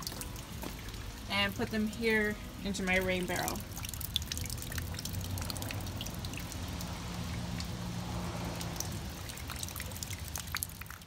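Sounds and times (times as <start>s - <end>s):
water drips and splats: 0.0s - 11.0s
water pouring and splashing: 0.0s - 11.0s.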